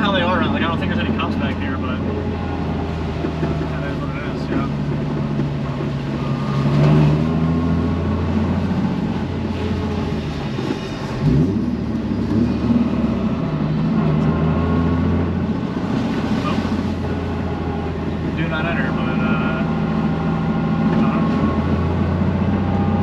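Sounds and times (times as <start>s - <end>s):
car engine revving while driving: 2.0s - 23.0s.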